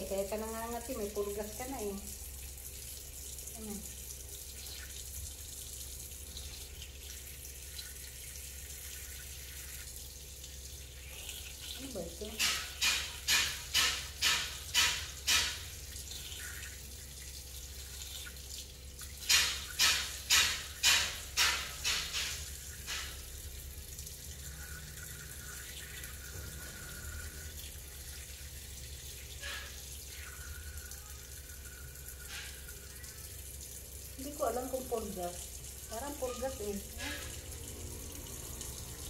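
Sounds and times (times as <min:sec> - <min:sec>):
faucet running into sink: 0:00.0 - 0:39.0.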